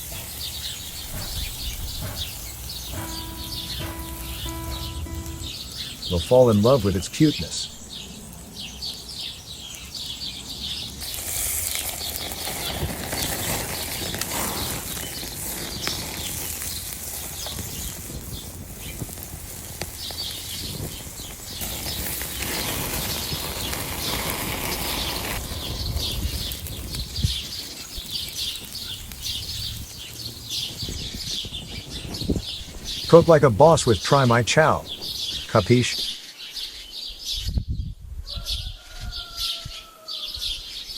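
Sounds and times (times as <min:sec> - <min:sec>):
rustling hiss: 0:00.0 - 0:10.3, 0:10.9 - 0:36.6
small birds chirping: 0:00.0 - 0:40.9.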